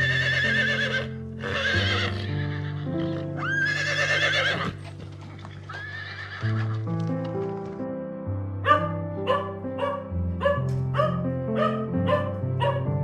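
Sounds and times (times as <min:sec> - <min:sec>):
background music sustained notes: 0:00.0 - 0:13.0.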